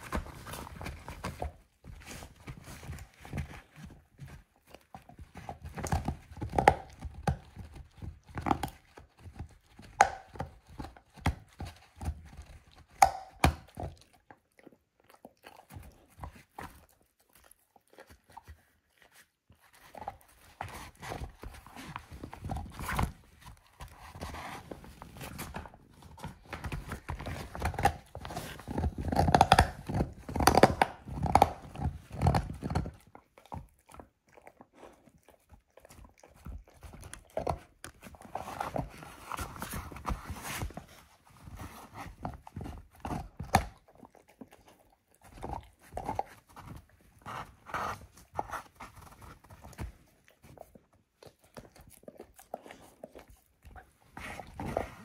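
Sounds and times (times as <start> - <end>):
dog crunching a bone: 0.0 - 55.0.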